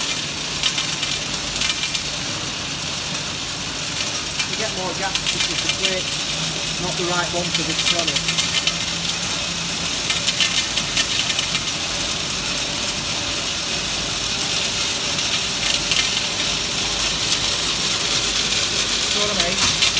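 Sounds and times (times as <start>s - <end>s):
candy wrapping machine running: 0.0s - 19.9s
hard candies rattling and clicking: 0.0s - 19.9s.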